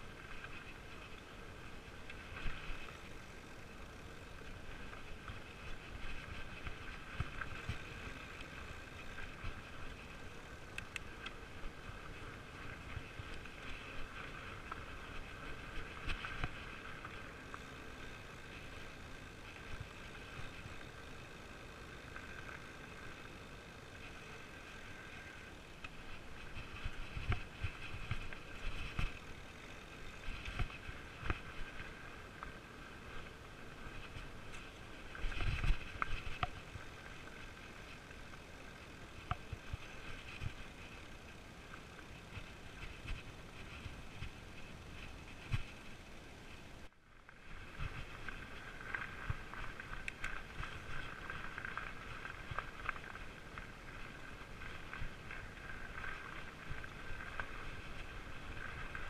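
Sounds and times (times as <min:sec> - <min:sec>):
bike tyres rumbling on dirt trail: 0:00.0 - 0:59.0.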